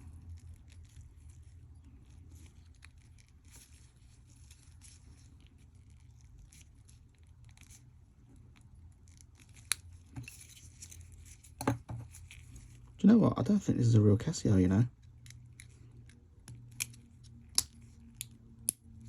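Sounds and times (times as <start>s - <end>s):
low steady hum: 0.0s - 19.0s
small watch parts clicking: 0.3s - 12.9s, 14.9s - 19.0s.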